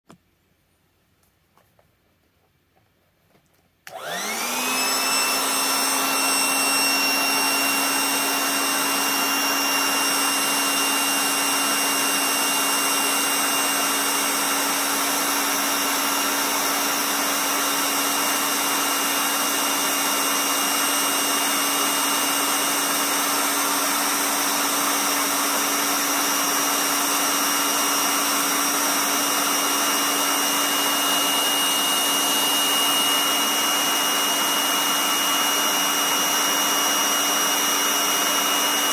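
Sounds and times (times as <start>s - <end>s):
electric air pump running: 3.9s - 38.9s.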